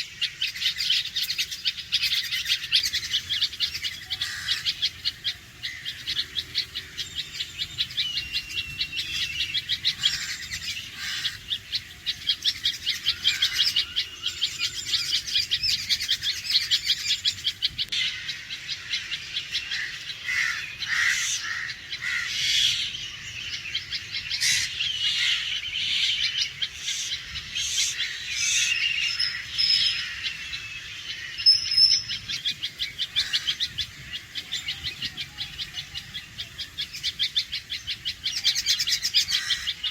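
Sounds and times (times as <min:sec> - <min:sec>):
bird alarm calls: 0:00.0 - 0:39.9
bird chatter: 0:00.0 - 0:39.9.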